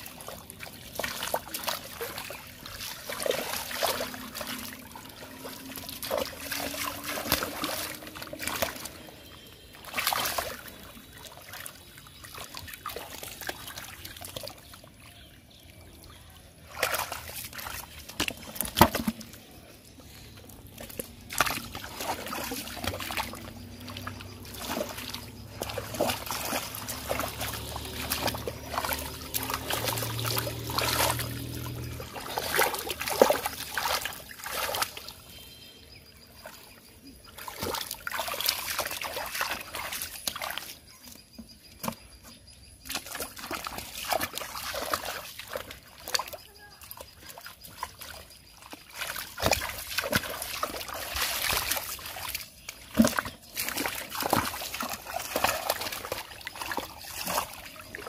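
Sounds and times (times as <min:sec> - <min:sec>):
muddy water splashing: 0:00.0 - 0:58.0.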